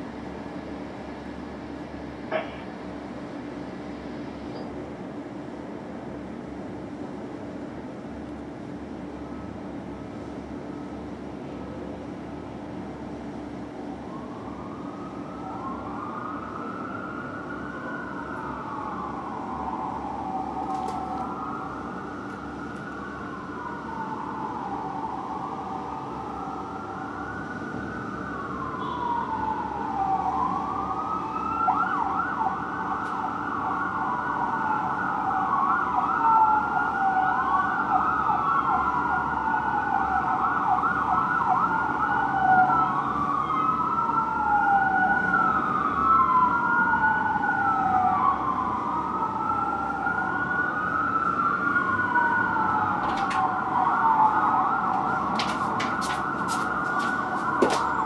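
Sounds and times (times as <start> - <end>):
sirens wailing: 0.0 - 58.0.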